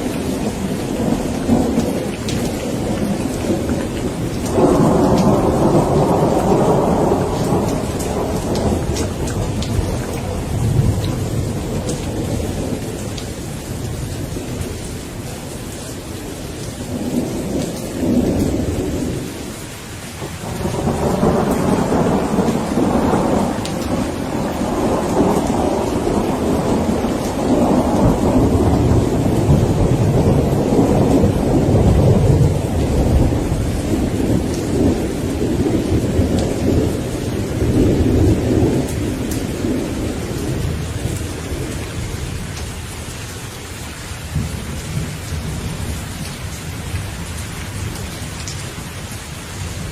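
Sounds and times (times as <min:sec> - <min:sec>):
rolling thunder: 0:00.0 - 0:42.9, 0:44.2 - 0:49.0
steady rain: 0:00.0 - 0:49.9.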